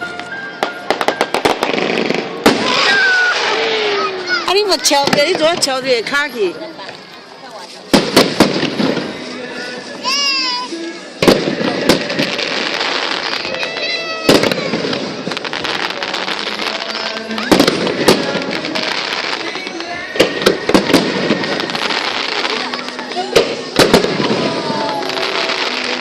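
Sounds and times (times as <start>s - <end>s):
crowd voices: 0.0s - 26.0s
fireworks banging: 0.0s - 26.0s.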